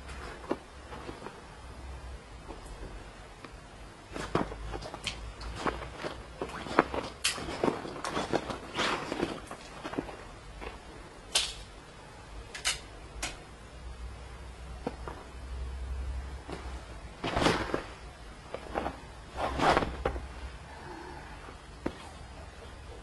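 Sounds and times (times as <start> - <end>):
rustling on bedding: 0.0 - 11.2, 14.5 - 23.0.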